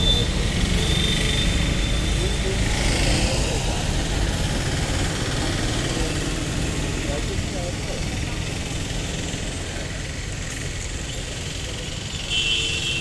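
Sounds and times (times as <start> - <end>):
low rumble of passing traffic: 0.0 - 12.4.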